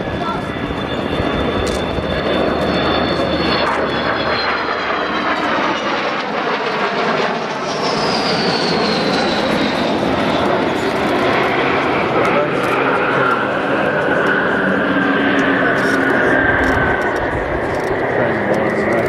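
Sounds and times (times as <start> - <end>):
high jet whine: 0.0 - 19.0
jet bomber flying past: 0.0 - 19.0.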